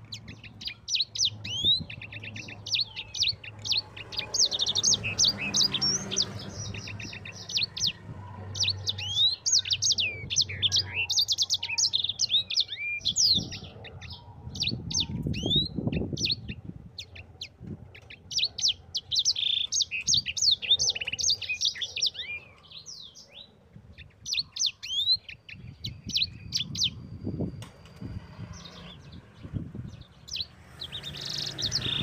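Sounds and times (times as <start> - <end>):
finch singing: 0.0 - 32.0.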